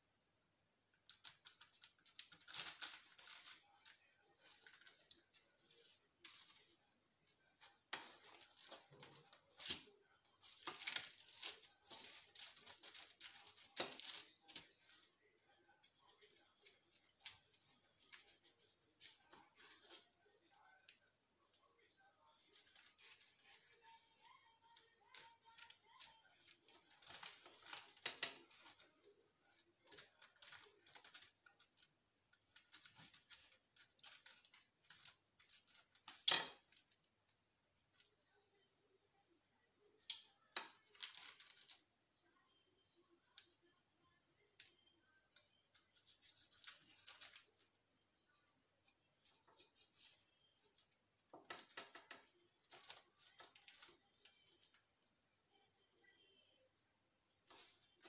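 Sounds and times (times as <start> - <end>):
parchment paper rustling: 1.0 - 21.1, 21.7 - 38.2, 39.9 - 42.0, 43.2 - 55.2, 57.4 - 58.0.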